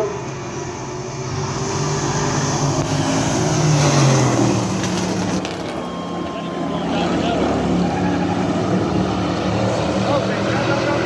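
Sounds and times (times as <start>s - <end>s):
race truck engines revving: 0.0s - 11.0s.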